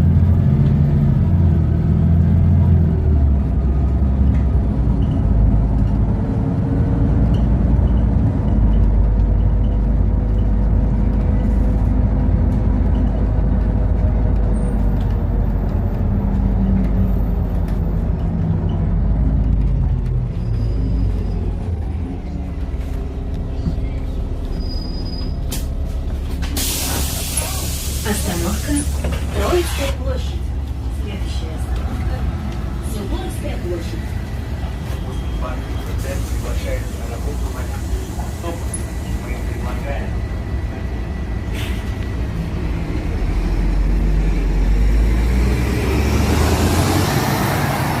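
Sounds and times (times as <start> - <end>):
bus engine running low: 0.0 - 48.0
road noise: 0.0 - 48.0.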